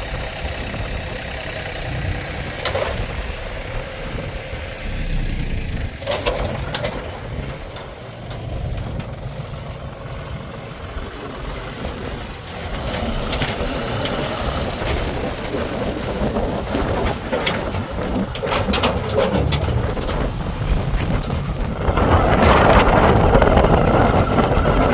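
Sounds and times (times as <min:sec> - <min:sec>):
backhoe diesel engine running: 0:00.0 - 0:24.9.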